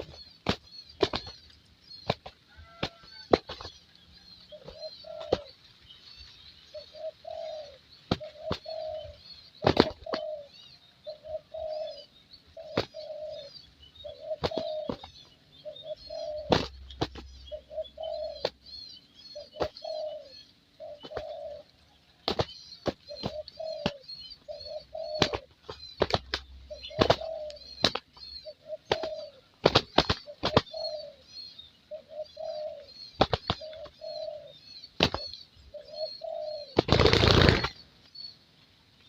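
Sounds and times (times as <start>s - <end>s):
dove cooing: 0.0s - 1.4s, 4.5s - 5.6s, 6.7s - 37.8s
small birds chirping: 0.0s - 39.0s.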